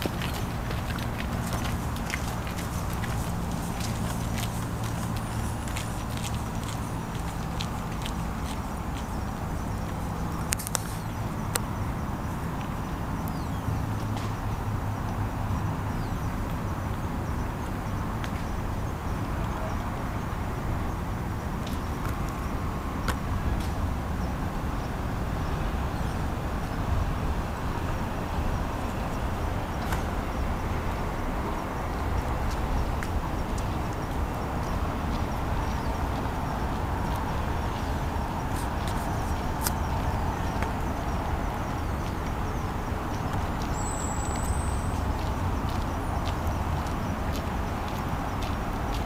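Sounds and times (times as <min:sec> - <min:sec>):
distant city traffic rumble: 0:00.0 - 0:49.0.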